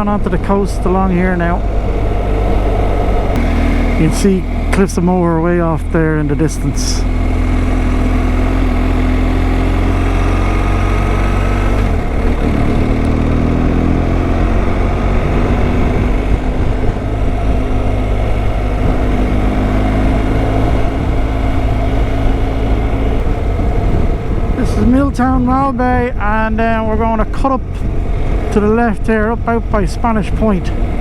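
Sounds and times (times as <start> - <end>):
motorcycle engine running: 0.0 - 31.0
road and wind noise: 0.0 - 31.0.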